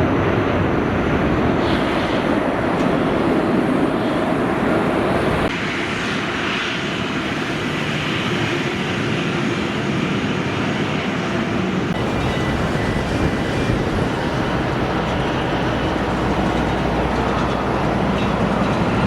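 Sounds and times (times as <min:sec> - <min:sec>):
airliner engines running: 0:00.0 - 0:19.0.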